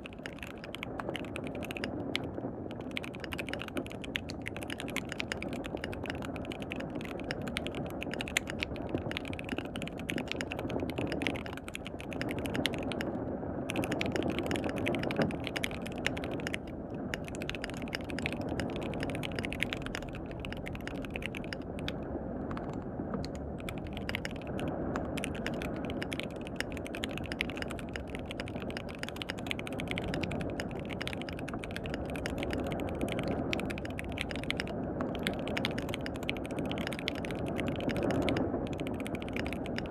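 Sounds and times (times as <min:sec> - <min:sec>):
mechanical keyboard typing: 0:00.0 - 0:39.9
steady rain: 0:00.0 - 0:39.9.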